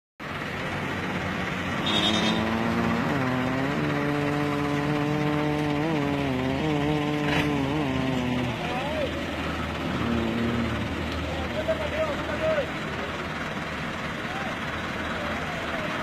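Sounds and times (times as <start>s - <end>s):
tractor diesel engine under load: 0.2s - 16.0s.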